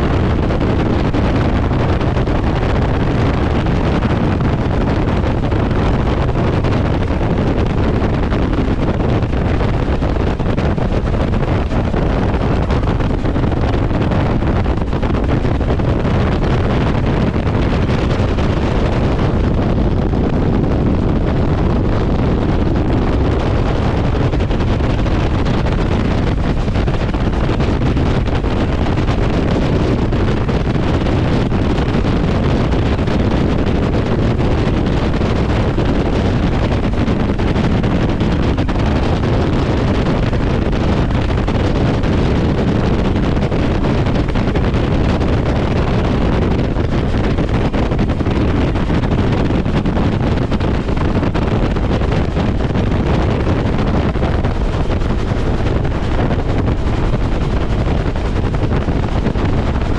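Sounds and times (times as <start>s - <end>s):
helicopter rotor and engine noise: 0.0s - 59.9s
wind buffeting microphone: 0.0s - 59.9s.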